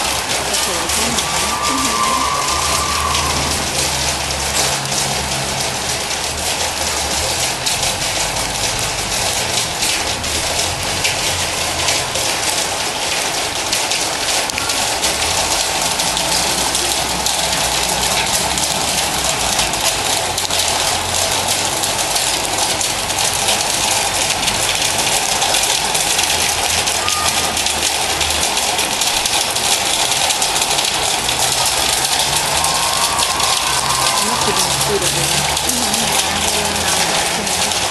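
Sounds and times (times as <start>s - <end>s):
rain drumming on metal roof: 0.0s - 37.9s.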